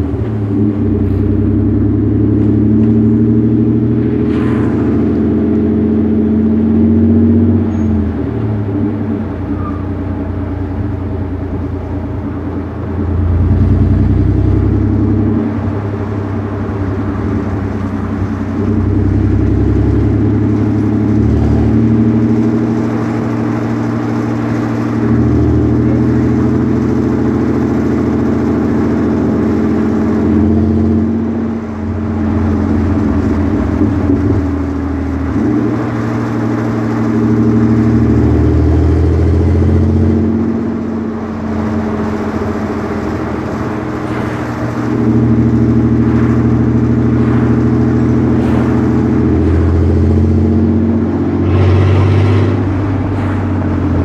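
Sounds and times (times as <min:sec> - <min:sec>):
car engine rumbling: 0:00.0 - 0:54.0.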